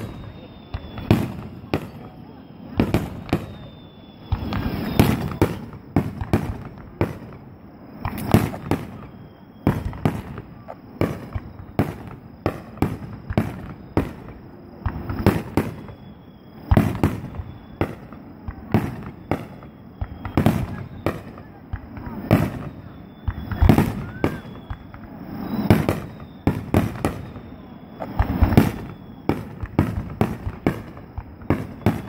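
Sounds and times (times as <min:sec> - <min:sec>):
firework shells bursting: 0:00.0 - 0:32.0.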